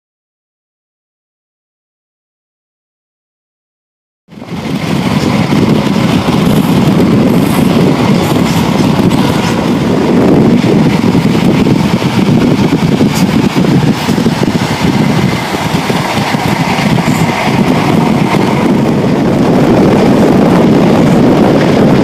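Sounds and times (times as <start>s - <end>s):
train wheels rumbling on rail: 4.3s - 22.0s.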